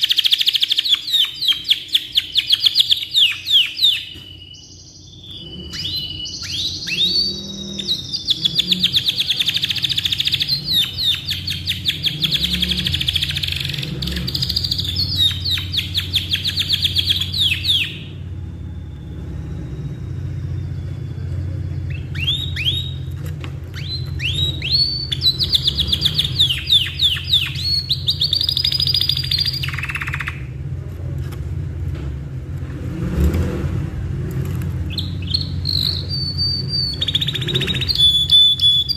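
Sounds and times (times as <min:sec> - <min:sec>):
canary singing trills: 0:00.0 - 0:30.7, 0:34.8 - 0:38.9
low steady hum: 0:00.9 - 0:33.1.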